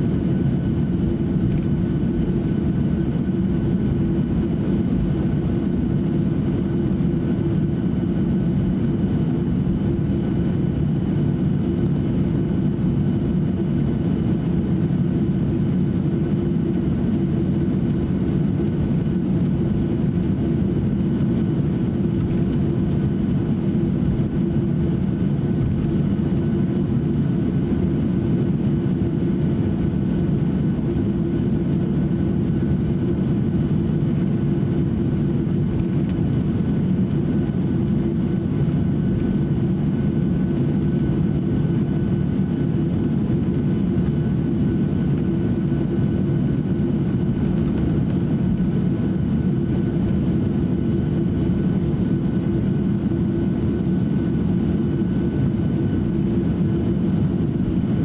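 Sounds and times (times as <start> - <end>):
airplane cabin engine rumble: 0.0 - 58.0
faint high engine whine: 0.0 - 58.0.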